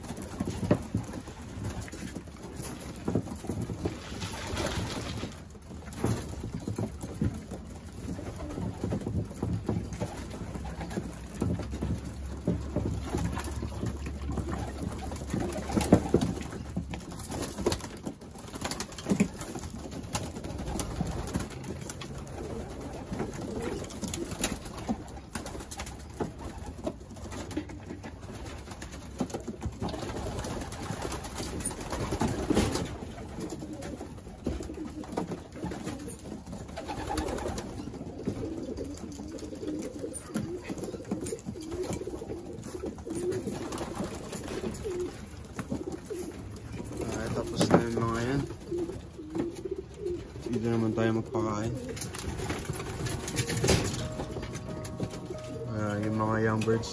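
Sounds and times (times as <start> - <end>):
pigeons cooing: 0.0 - 56.9.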